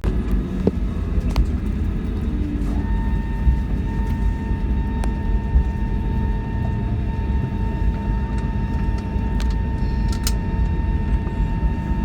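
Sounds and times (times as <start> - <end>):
aircraft cabin rumble: 0.0 - 12.0
constant mid-pitched tone: 0.0 - 12.0.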